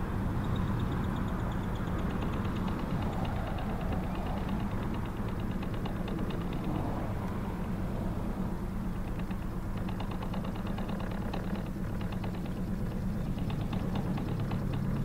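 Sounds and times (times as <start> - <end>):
engine humming: 0.0 - 15.0
fast repeating ticking: 0.2 - 7.0, 8.9 - 15.0.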